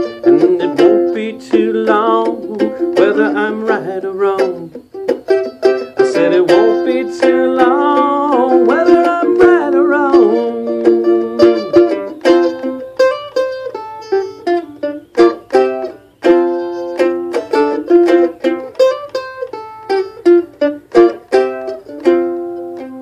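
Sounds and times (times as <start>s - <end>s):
mandolin playing: 0.0s - 23.0s.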